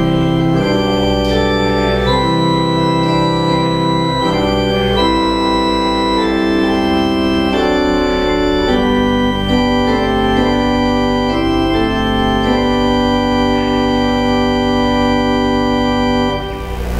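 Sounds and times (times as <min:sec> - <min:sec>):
church organ playing sustained chords: 0:00.0 - 0:16.9.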